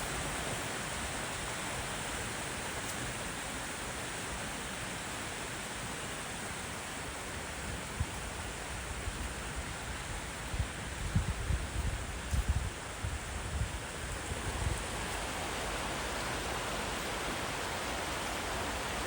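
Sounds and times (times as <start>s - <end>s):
mountain stream rushing: 0.0s - 10.9s, 13.7s - 19.0s.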